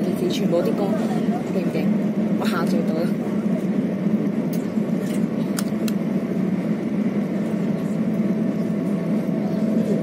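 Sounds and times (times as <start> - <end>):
train interior rumble: 0.0 - 10.0.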